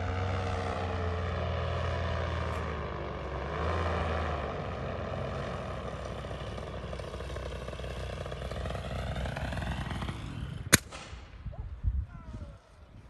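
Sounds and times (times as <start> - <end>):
propeller aircraft engine droning: 0.0 - 11.8.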